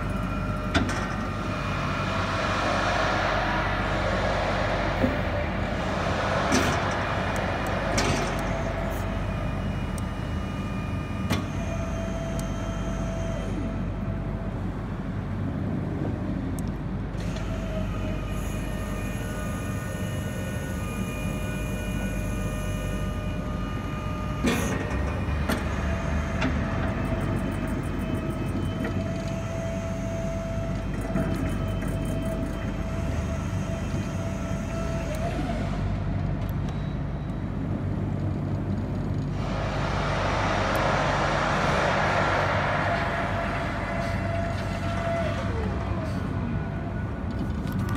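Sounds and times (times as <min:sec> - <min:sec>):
electric drive rumble with whine: 0:00.0 - 0:47.9.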